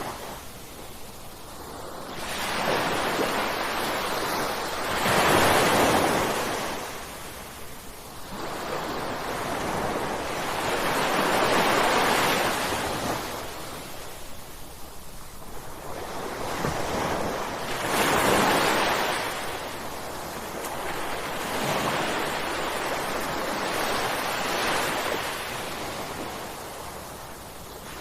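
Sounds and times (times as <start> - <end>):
ocean waves crashing: 1.6 - 7.6, 8.2 - 14.5, 15.6 - 28.0.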